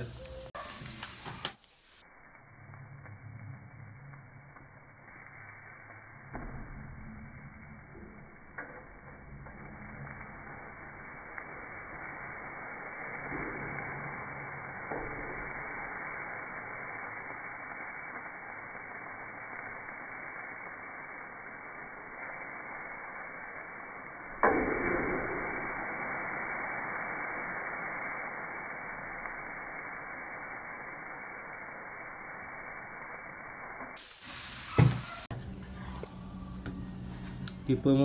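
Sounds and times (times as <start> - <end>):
steak sizzling on a grill: 0.0 - 38.0.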